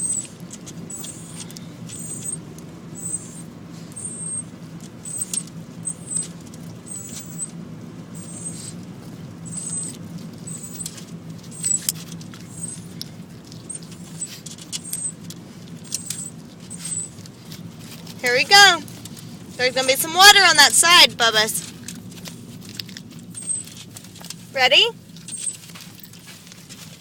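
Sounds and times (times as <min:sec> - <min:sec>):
short high-pitched squeaks: 0:00.0 - 0:08.8, 0:09.4 - 0:21.8, 0:22.4 - 0:27.0
car engine and road hum: 0:00.0 - 0:27.0.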